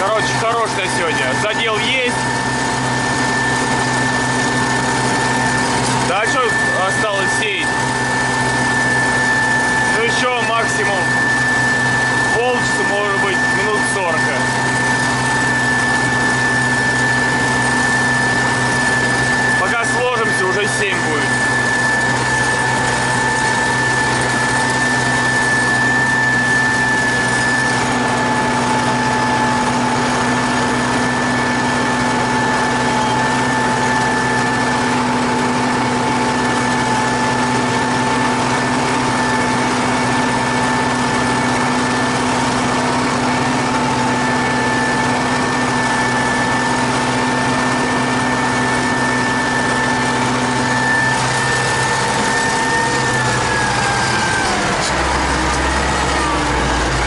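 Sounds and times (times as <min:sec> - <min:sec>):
high-pitched whine: 0:00.0 - 0:57.0
tractor engine drone: 0:00.0 - 0:57.0.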